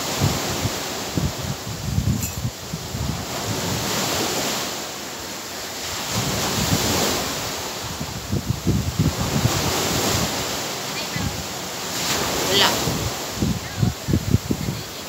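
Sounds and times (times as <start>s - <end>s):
wind buffeting microphone: 0.0s - 4.6s, 5.8s - 15.0s
waves breaking against seawall: 0.0s - 15.0s.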